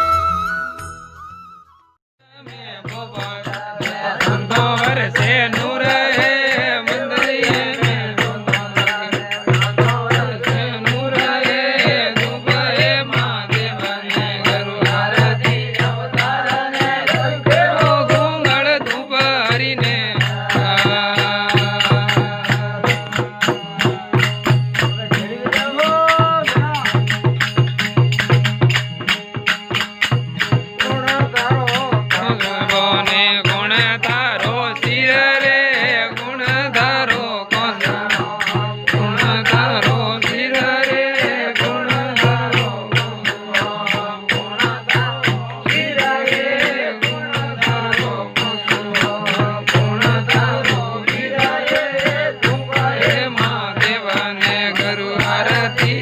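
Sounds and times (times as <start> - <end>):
rattling hand percussion: 2.3 - 56.0.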